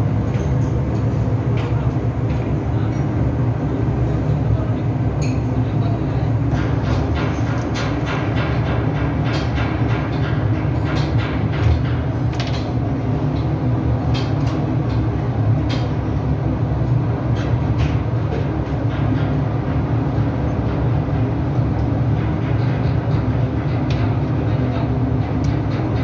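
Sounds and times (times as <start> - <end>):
engine room machinery drone: 0.0 - 26.0.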